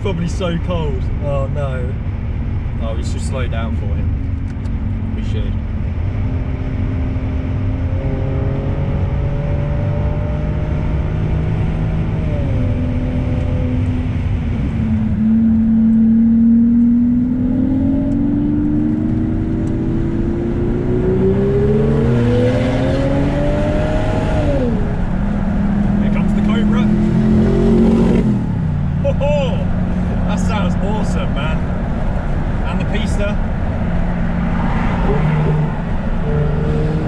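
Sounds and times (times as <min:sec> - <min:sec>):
engine revving under acceleration: 0:04.5 - 0:29.1, 0:29.7 - 0:37.0.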